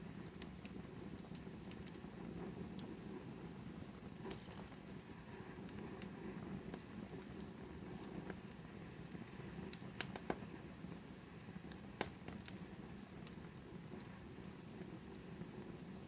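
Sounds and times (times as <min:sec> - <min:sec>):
fire crackling in fireplace: 0:00.0 - 0:16.0
sharp pops of fire: 0:00.1 - 0:14.2.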